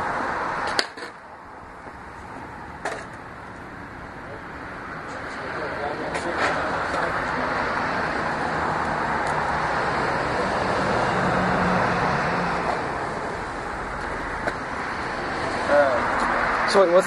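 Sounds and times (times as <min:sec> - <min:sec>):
vehicle passing: 0:00.0 - 0:17.0.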